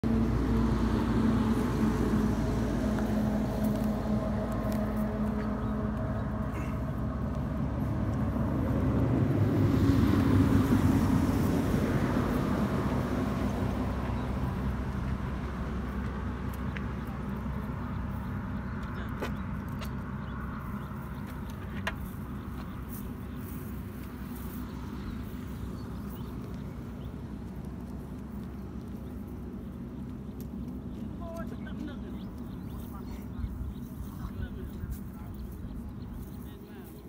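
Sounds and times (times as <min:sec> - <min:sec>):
motor engine humming: 0:00.0 - 0:37.0.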